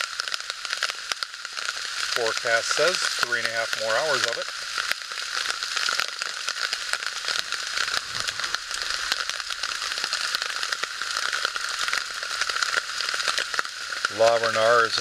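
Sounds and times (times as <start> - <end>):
rain pattering on a tarp: 0.0 - 15.0.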